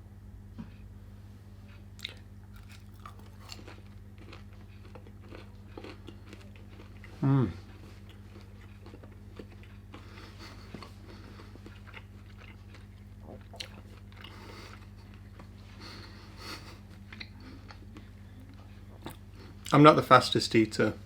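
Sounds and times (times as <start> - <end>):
chewing crispy pork: 1.6 - 19.9.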